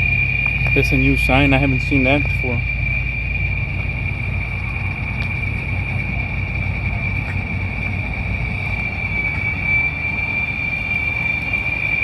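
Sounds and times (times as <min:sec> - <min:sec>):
cicadas droning: 0:00.0 - 0:12.0
low rumble: 0:00.0 - 0:12.0.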